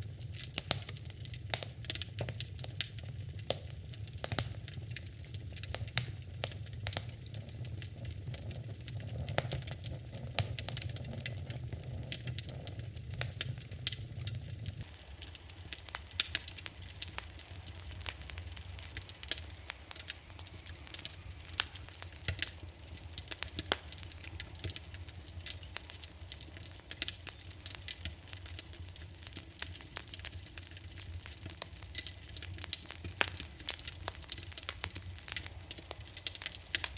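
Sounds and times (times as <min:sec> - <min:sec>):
low rumble of flame: 0:00.0 - 0:36.9
wood fire crackling and popping: 0:00.0 - 0:36.9.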